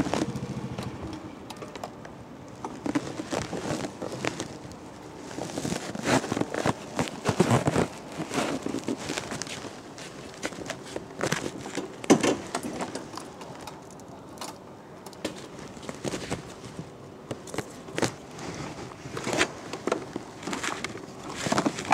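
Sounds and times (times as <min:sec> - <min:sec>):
handling knocks and rustles: 0:00.0 - 0:21.9.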